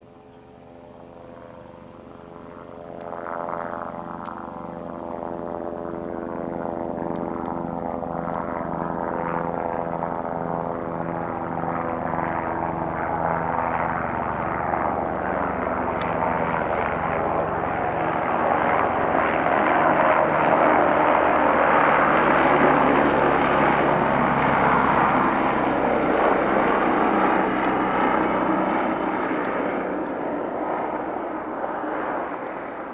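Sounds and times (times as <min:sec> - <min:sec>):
helicopter engine and rotor: 0:00.0 - 0:32.9.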